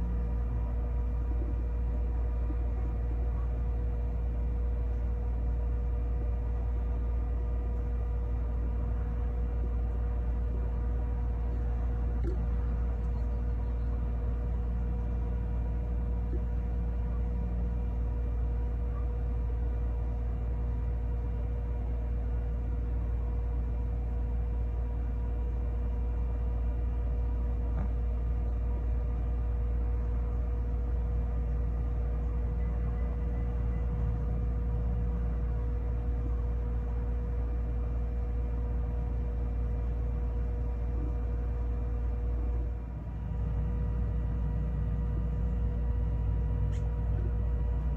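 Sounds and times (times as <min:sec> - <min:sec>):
machine hum: 0:00.0 - 0:47.9.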